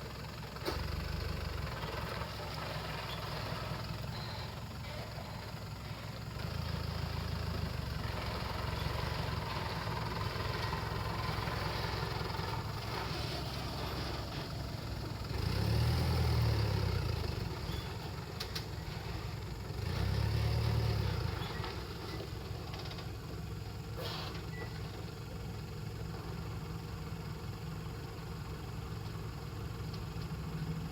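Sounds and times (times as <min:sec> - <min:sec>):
truck engine idling and revving: 0:00.0 - 0:30.9.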